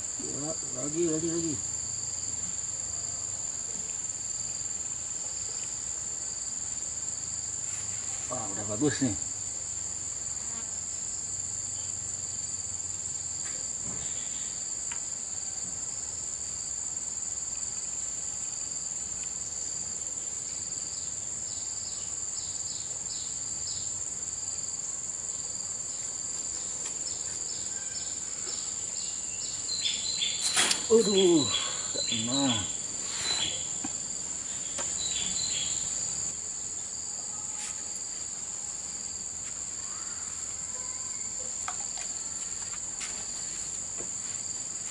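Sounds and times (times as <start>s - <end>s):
insect chirps: 0.0s - 44.9s
insect chorus: 0.0s - 44.9s.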